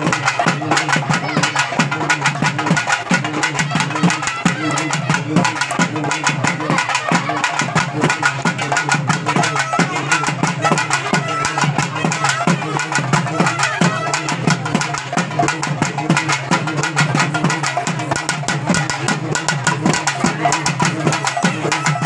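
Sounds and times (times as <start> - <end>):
drummers beating drums: 0.0 - 22.0.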